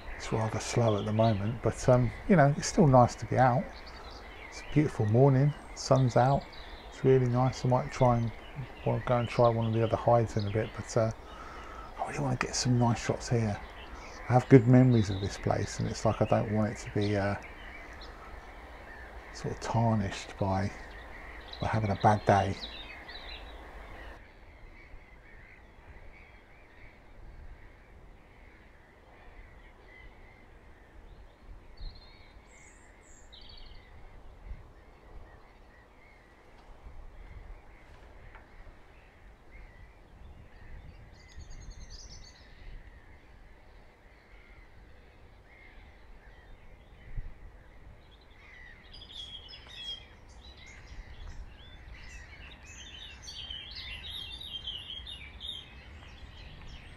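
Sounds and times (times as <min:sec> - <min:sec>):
bird calls and chirping: 0:00.0 - 0:56.9
low wind rumble: 0:00.0 - 0:56.9.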